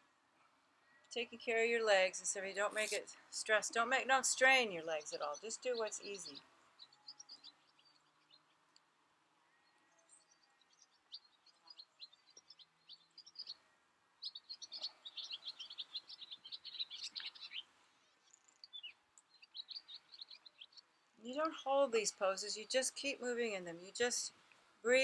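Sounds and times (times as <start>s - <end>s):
small birds chirping: 0.4s - 25.0s.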